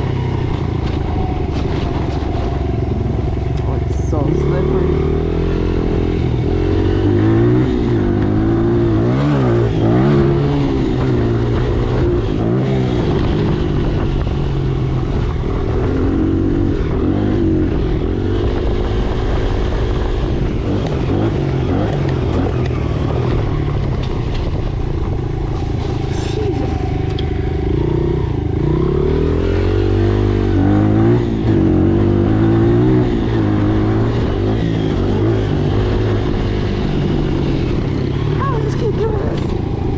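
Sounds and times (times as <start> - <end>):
dirt bike engine revving: 3.6 - 39.9.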